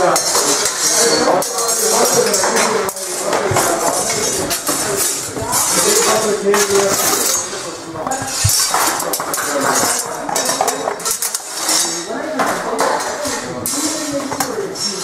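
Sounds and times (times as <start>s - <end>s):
steel swords clashing: 0.0s - 15.0s.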